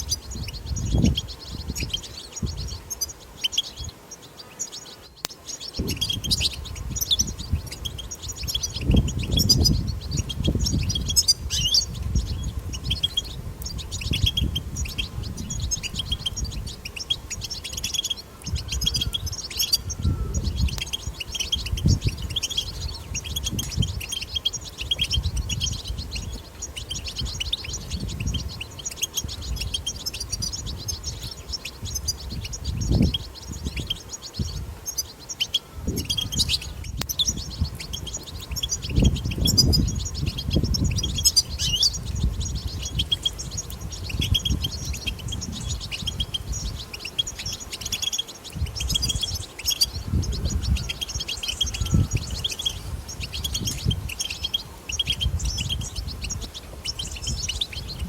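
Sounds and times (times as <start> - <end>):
finch twittering: 0.0 - 58.0.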